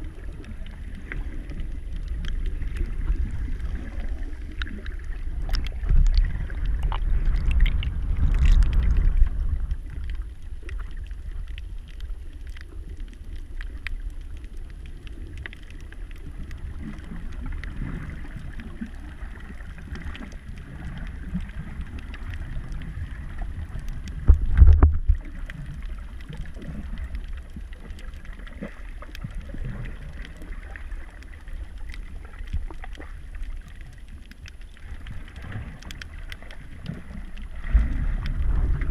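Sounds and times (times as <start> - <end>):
faint clicks and crackles: 0.0 - 38.9
muffled underwater rumble: 0.0 - 38.9.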